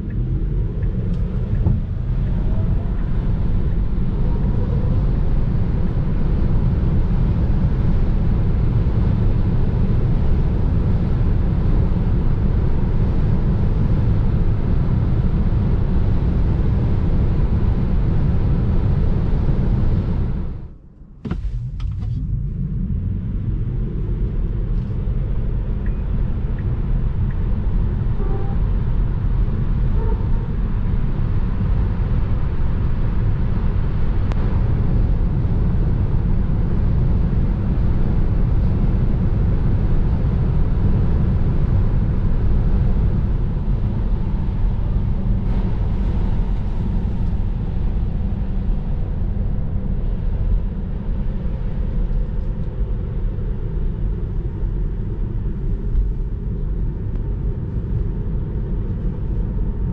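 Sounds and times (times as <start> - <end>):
road and wind noise in car cabin: 0.0 - 59.9.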